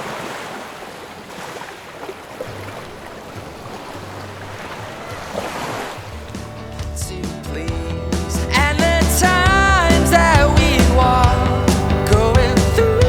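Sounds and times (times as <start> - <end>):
sea water lapping: 0.0 - 13.0.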